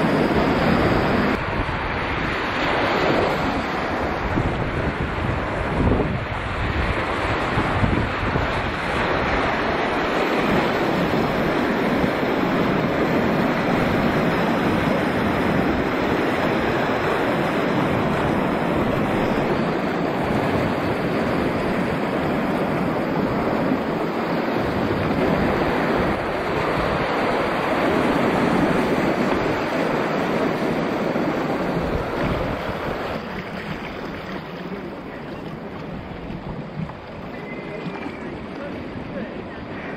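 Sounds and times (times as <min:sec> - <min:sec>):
rushing whitewater: 0:00.0 - 0:39.9
wind buffeting microphone: 0:00.0 - 0:39.9.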